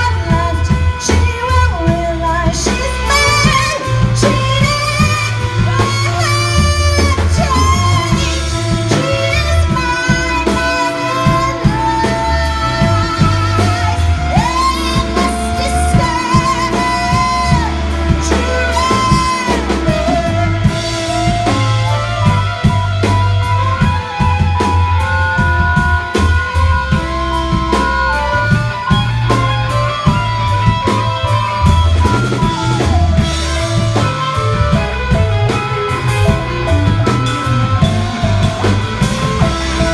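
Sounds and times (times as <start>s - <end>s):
drum kit: 0.0s - 39.9s
electric guitar: 0.0s - 39.9s
person singing: 0.0s - 39.9s.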